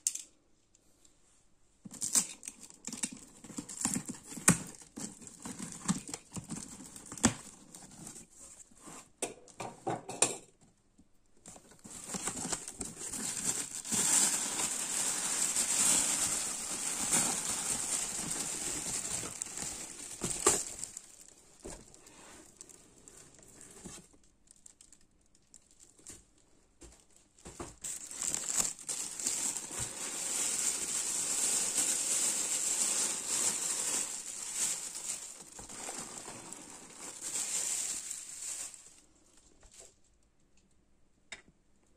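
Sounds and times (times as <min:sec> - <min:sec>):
plastic bag crinkling: 0:01.9 - 0:08.3, 0:11.5 - 0:39.9.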